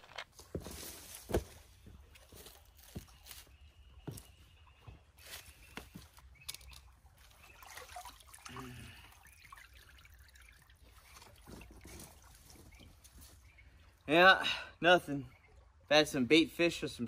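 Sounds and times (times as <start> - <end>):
water trickling and dripping: 1.8 - 17.0.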